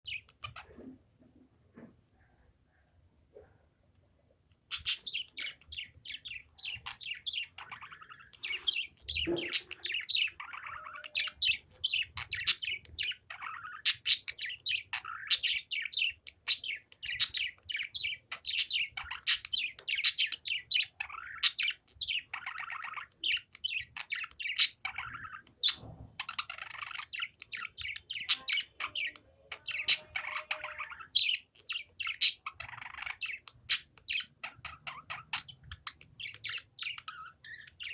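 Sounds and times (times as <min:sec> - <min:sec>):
budgerigar chattering: 0:04.7 - 0:37.9.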